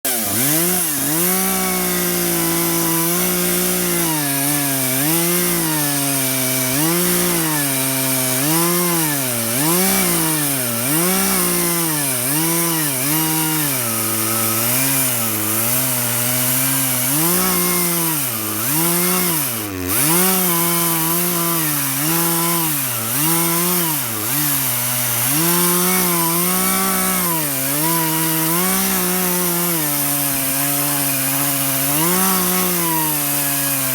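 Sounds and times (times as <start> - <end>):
chainsaw cutting through log: 0.0 - 33.9.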